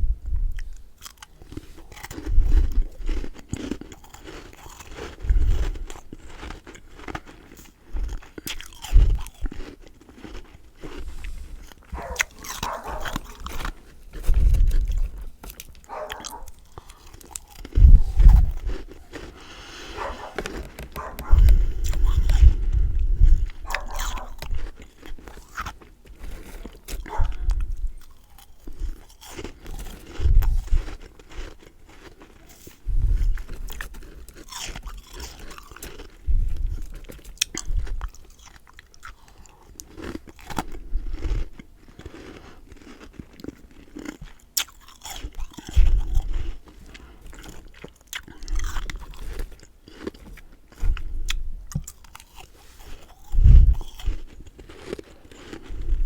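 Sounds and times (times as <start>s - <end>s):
chewing and crunching frost: 0.3s - 56.0s.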